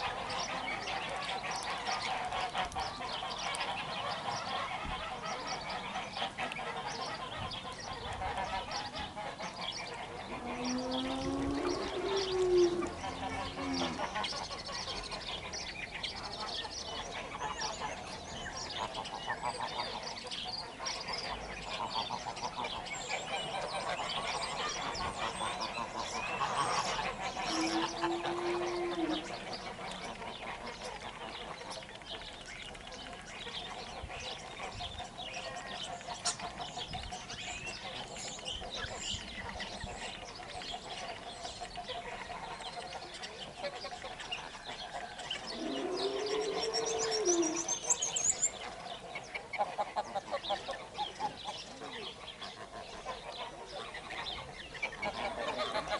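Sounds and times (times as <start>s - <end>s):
geese honking and gabbling: 0.0s - 55.9s.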